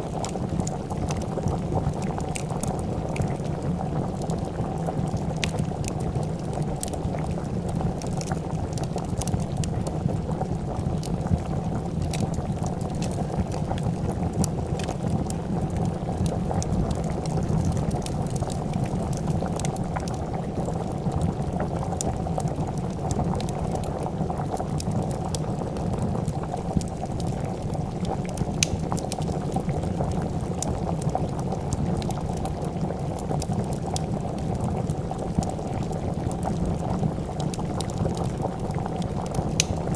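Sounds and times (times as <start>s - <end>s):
soup boiling: 0.0s - 39.9s
wood fire crackling: 0.0s - 39.9s.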